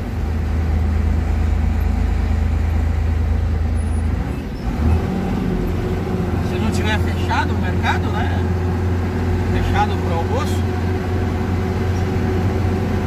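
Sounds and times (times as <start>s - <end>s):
truck diesel engine drone: 0.0s - 13.0s.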